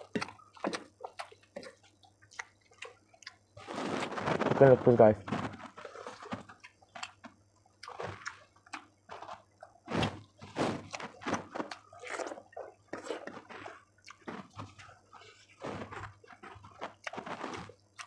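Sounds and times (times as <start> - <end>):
chewing and lip-smacking: 0.0 - 3.7, 5.6 - 18.0.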